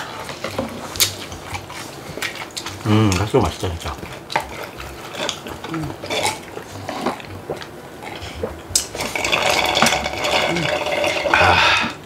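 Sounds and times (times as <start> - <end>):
chewing and slurping: 0.0 - 12.0.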